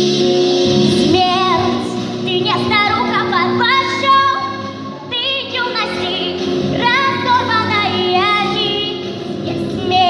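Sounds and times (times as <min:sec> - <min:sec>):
girl singing with vibrato: 0:00.9 - 0:10.0.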